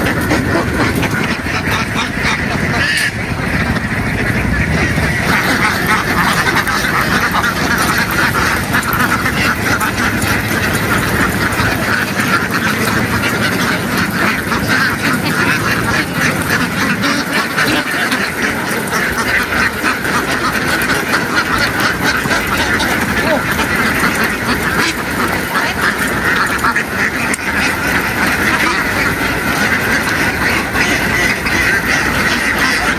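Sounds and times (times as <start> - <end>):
ducks quacking: 0.0 - 32.9.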